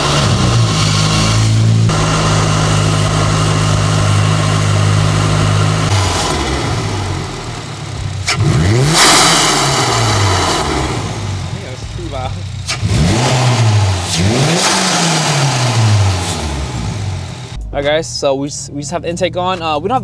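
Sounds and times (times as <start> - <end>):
car engine revving: 0.0 - 18.5.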